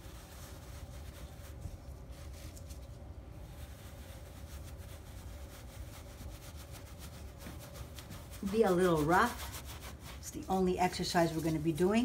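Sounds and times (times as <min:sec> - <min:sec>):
brush scratching on fabric: 0:00.0 - 0:12.0.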